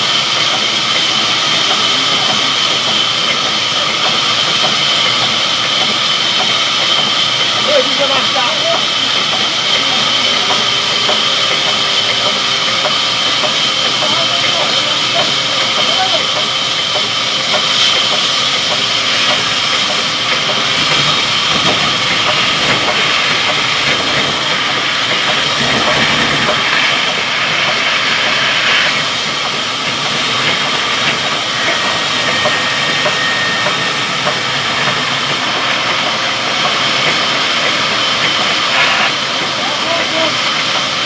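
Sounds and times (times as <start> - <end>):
sawmill machine running: 0.0 - 41.0.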